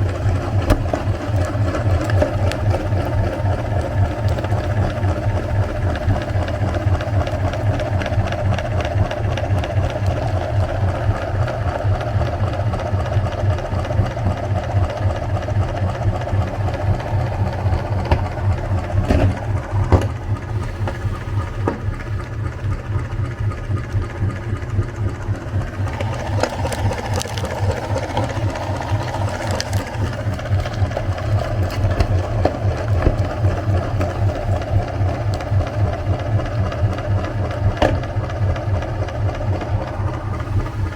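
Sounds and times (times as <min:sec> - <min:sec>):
electric meat grinder running: 0:00.0 - 0:23.0, 0:25.5 - 0:40.9.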